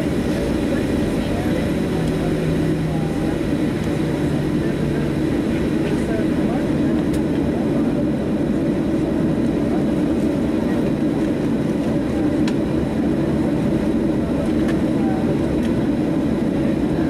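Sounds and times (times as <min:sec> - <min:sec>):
aircraft engines idling rumble: 0:00.0 - 0:17.0.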